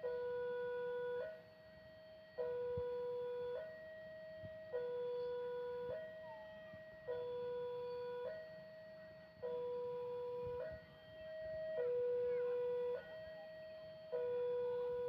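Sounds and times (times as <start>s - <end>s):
two-tone warning alarm: 0.0s - 15.0s.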